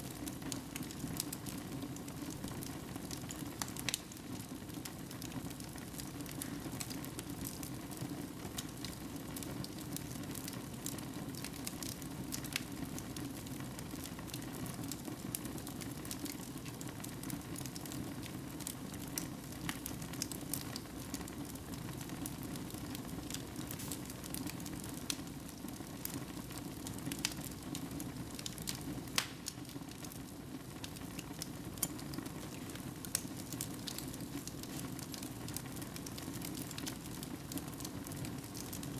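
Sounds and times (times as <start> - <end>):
fire crackling in fireplace: 0.0 - 38.9
sharp pops and snaps of fire: 0.0 - 38.9.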